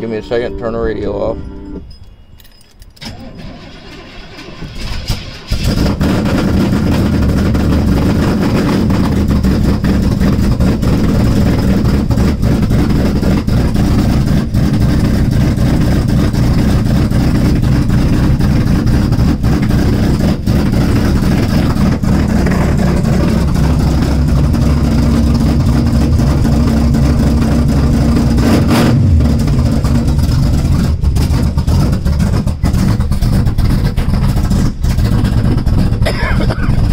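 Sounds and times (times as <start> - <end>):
loud truck engine running: 3.0 - 36.9.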